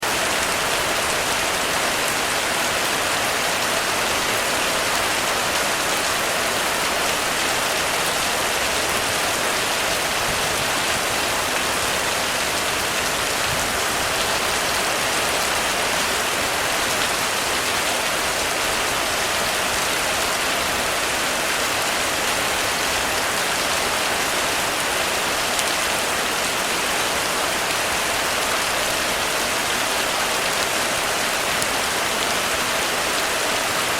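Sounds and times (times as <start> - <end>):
heavy rain on a roof: 0.0 - 33.9.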